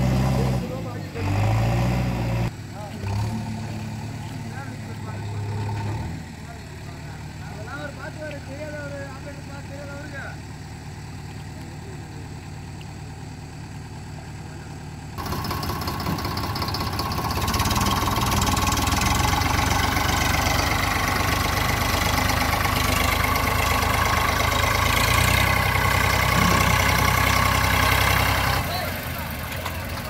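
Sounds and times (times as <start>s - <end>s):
diesel engines revving under load: 0.0s - 30.0s.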